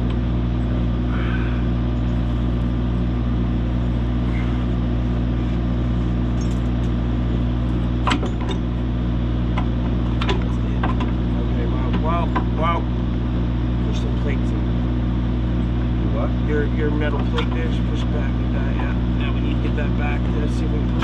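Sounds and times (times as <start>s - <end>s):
heavy machine engine running: 0.0s - 21.0s.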